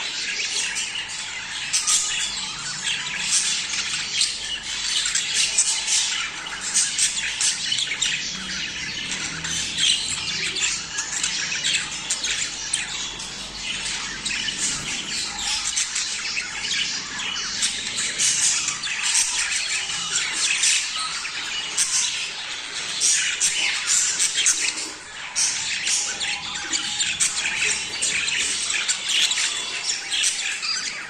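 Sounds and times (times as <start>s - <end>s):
budgerigars chattering and squawking: 0.0s - 31.0s.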